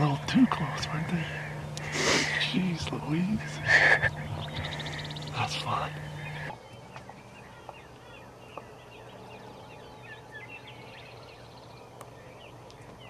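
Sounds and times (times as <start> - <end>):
faint low hum: 0.0 - 13.0
small birds chirping: 0.0 - 13.0.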